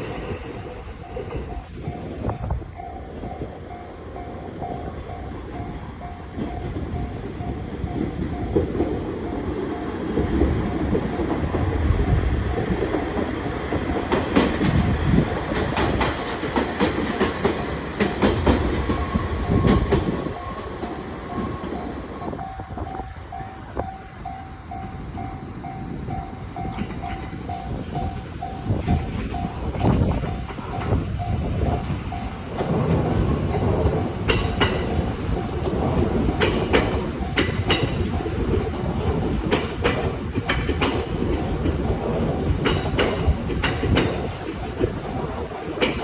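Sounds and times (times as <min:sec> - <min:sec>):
electric train rumbling past: 0:00.0 - 0:46.0
train wheels clacking on rails: 0:00.0 - 0:46.0.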